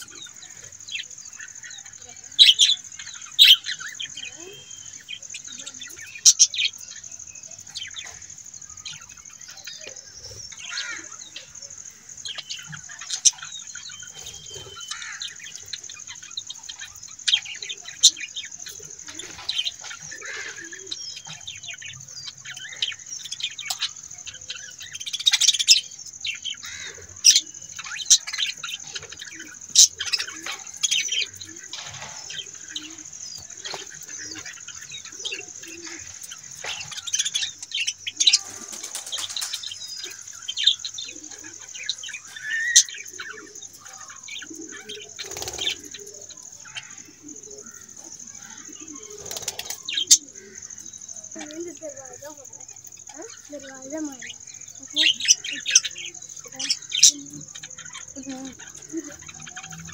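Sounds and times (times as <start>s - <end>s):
birds chirping: 0.0s - 59.9s
steady high-pitched hiss: 0.0s - 59.9s.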